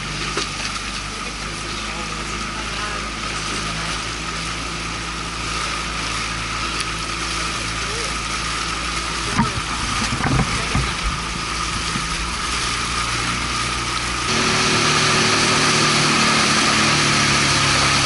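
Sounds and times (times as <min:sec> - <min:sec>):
outboard motor running: 0:00.0 - 0:18.0
water rushing past hull: 0:00.0 - 0:18.0.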